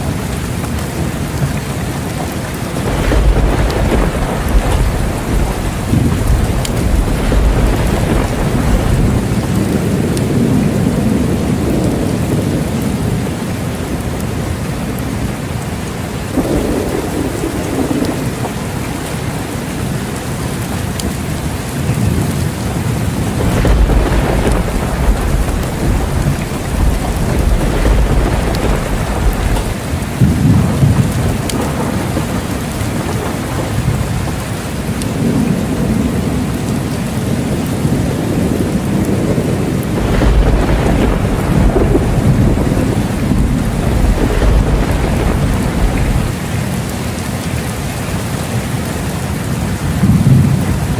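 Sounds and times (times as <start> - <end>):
thunder rumbling: 0.0 - 15.4, 16.2 - 46.9, 49.2 - 50.9
heavy rain: 0.0 - 50.9.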